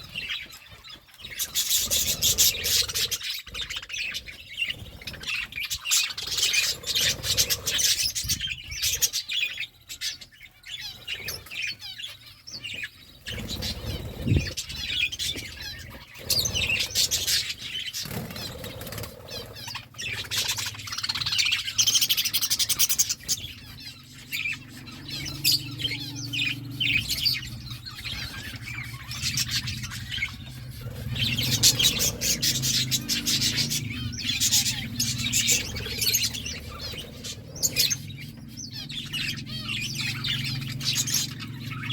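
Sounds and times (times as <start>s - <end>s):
parakeets chirping and chattering: 0.0s - 41.9s.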